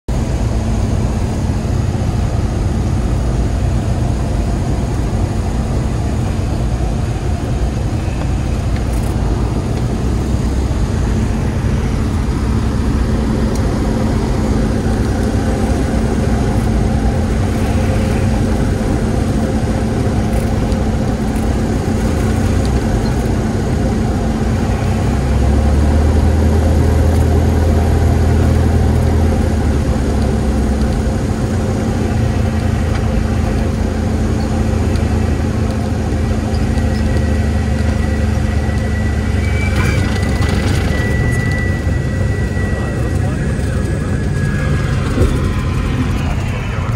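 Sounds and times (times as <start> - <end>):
deep rumble: 0.1 - 46.9
small plane engine and propeller: 0.1 - 46.9.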